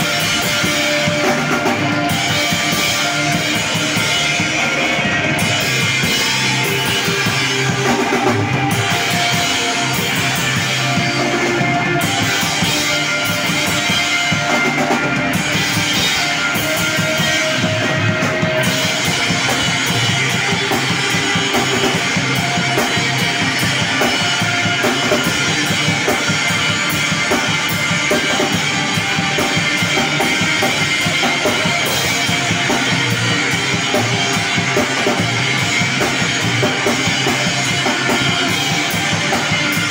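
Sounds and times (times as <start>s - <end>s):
drum kit with cymbals: 0.0s - 39.9s
electric guitars: 0.0s - 39.9s.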